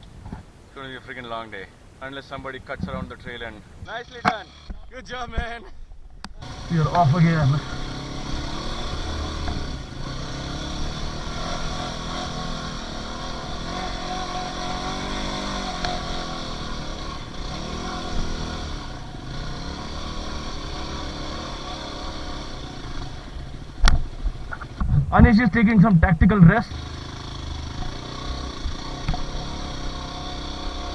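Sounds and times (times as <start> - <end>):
dirt bike engine revving: 3.6 - 4.8, 6.4 - 30.9.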